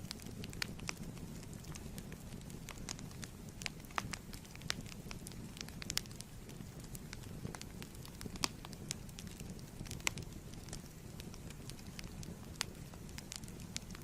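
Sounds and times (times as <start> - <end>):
sharp pops and snaps: 0.0 - 14.0
wood fire crackling: 0.0 - 14.0.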